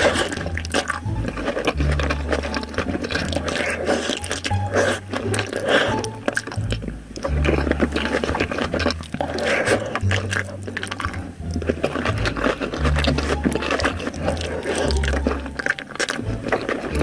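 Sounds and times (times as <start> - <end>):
wet chewing and lip smacking: 0.0 - 17.0.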